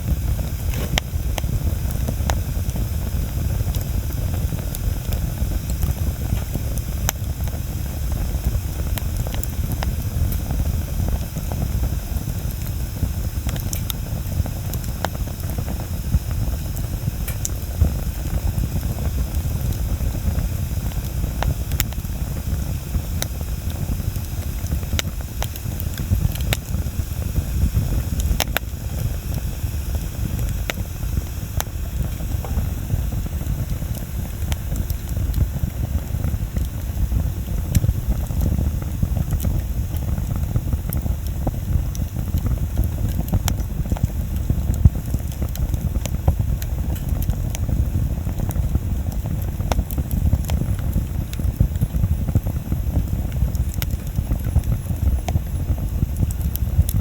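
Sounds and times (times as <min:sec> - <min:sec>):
bonfire low rumble: 0:00.0 - 0:57.0
burning wood crackling and popping: 0:00.0 - 0:57.0.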